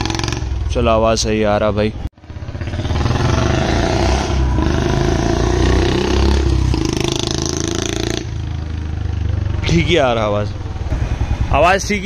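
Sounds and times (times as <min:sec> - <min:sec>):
motorcycle engine passing by: 0:00.0 - 0:00.7, 0:02.2 - 0:12.0.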